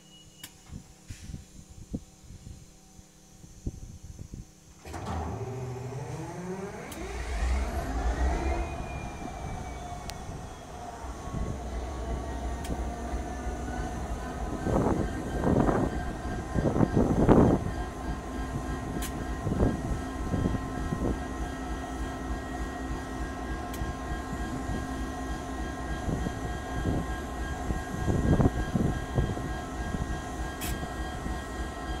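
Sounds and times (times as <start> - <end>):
diesel locomotive engine running: 4.8 - 32.0.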